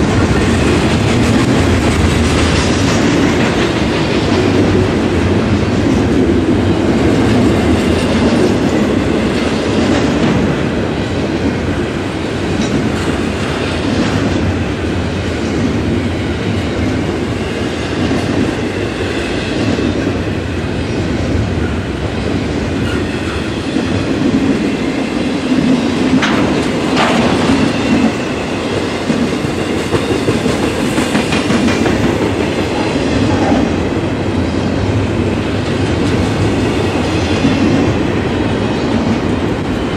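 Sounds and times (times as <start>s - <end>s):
clickety-clack over rail joints: 0.0s - 20.4s, 21.6s - 39.9s
train wheels rumbling on rail: 0.0s - 39.9s.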